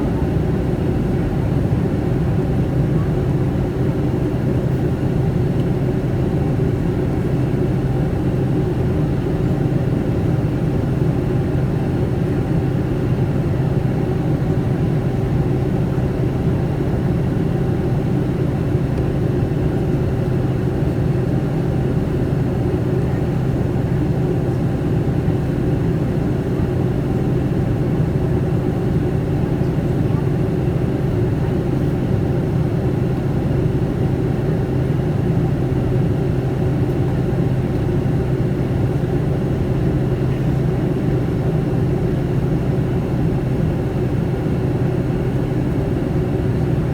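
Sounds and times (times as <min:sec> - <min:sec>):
aircraft cabin engine drone: 0:00.0 - 0:46.9.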